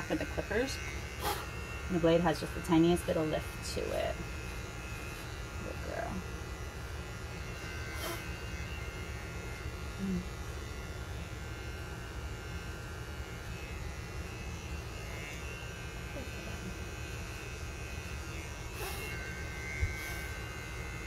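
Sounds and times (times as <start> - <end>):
pet clippers buzzing through fur: 0.0 - 21.0.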